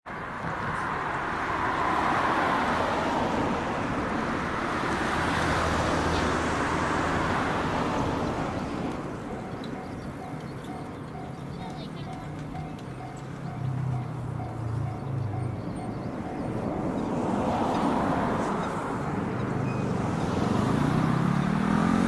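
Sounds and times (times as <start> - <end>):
train wheels rumbling past: 0.6 - 22.0.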